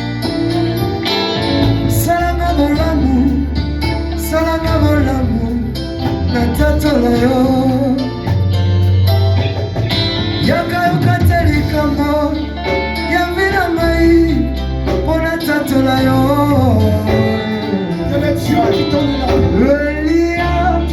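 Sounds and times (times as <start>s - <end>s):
person singing: 0.0s - 9.0s, 10.4s - 20.9s
instrumental music with bass line: 0.0s - 20.9s.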